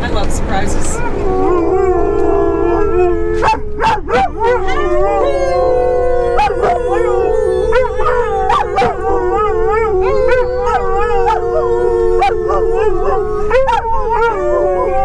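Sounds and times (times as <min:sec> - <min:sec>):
truck cab rumble: 0:00.0 - 0:15.0
dog howling: 0:01.0 - 0:15.0
people howling: 0:01.0 - 0:15.0.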